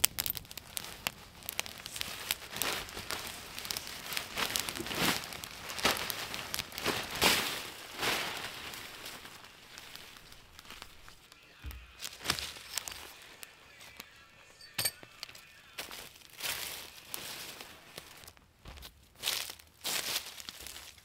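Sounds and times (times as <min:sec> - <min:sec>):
tarp crinkling and flapping: 0:00.0 - 0:11.4, 0:12.0 - 0:14.0, 0:15.8 - 0:21.0.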